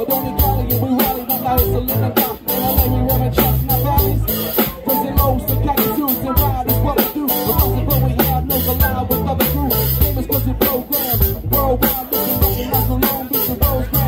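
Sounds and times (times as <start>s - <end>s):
bass line: 0.0s - 14.0s
drum kit beat: 0.0s - 14.0s
electric guitar lead: 0.0s - 14.0s.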